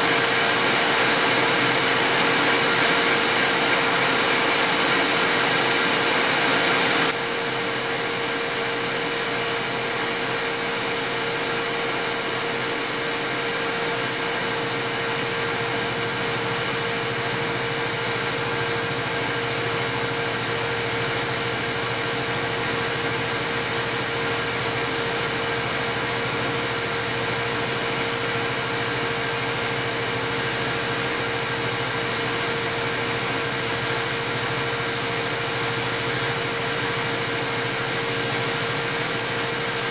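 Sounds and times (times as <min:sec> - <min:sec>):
metal lathe humming with whine: 0:00.0 - 0:39.9.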